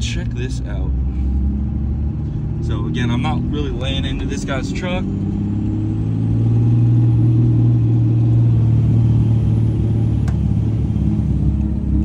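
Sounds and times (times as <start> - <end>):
diesel truck exhaust: 0.0 - 12.0.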